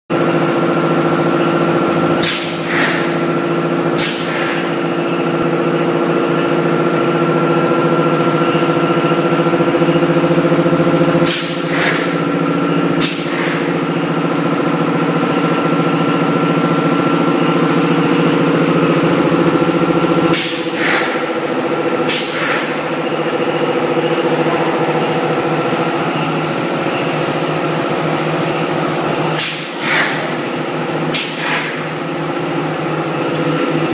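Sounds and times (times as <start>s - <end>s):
machine humming: 0.1s - 33.9s.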